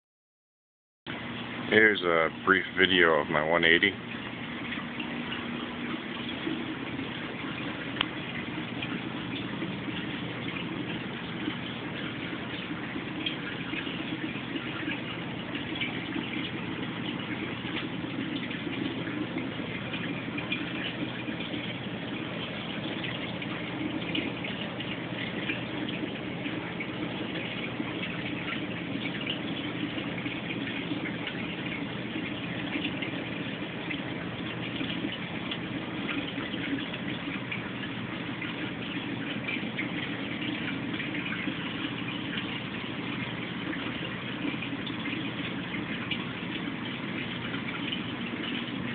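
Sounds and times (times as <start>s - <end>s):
water rushing and trickling: 1.1s - 48.9s.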